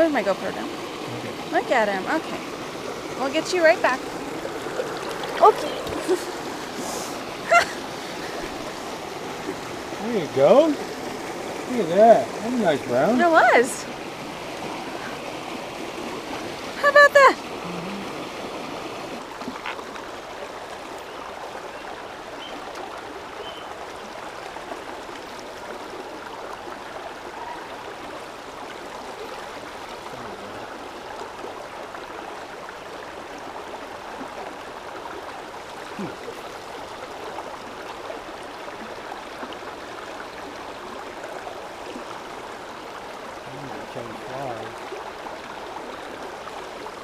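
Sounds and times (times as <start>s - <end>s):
creek water rushing over stones: 0.0s - 47.0s.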